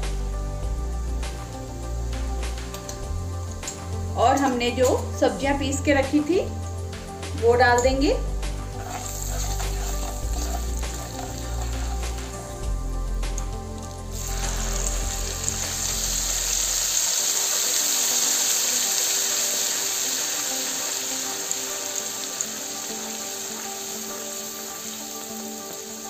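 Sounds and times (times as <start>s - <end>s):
oil and spices sizzling: 0.0s - 26.0s
soft background music: 0.0s - 26.0s.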